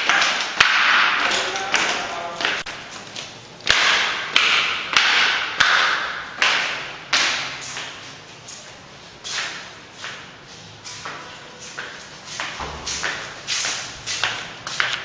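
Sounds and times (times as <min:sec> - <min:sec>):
footsteps echoing on concrete stairs: 0:00.0 - 0:15.0.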